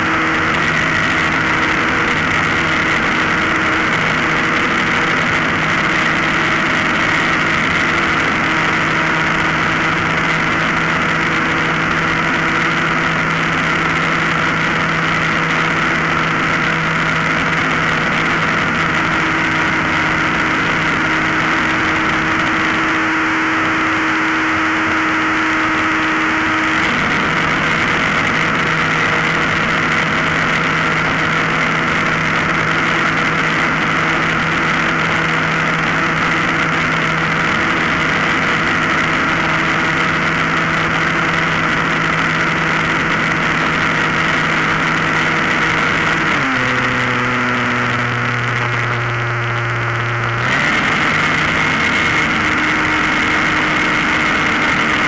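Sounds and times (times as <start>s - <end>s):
model plane motor droning: 0.0s - 55.0s.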